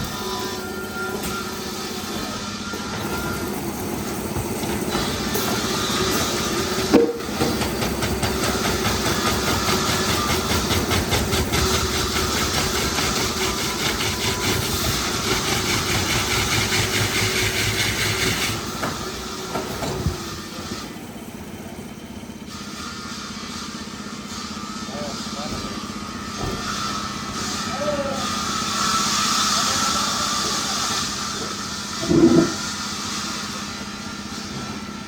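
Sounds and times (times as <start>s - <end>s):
debarking machine rattling and hissing: 0.0s - 35.0s.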